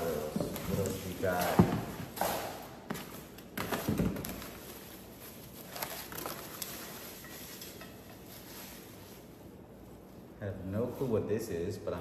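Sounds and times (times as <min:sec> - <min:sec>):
cardboard and plastic wrap rustling: 0:00.0 - 0:11.3.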